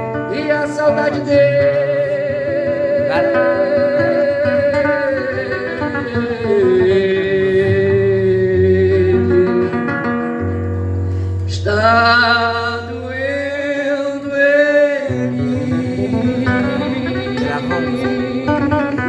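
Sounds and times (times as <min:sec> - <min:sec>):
man singing: 0:00.0 - 0:10.1, 0:11.5 - 0:19.0
acoustic guitar: 0:00.0 - 0:19.0.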